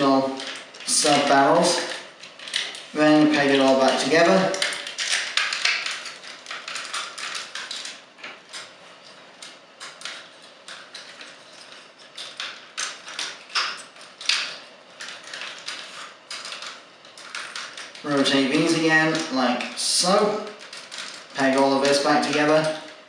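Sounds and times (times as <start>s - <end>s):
plastic toy parts clicking and tapping: 0.4s - 8.7s, 9.4s - 19.3s, 20.1s - 23.0s.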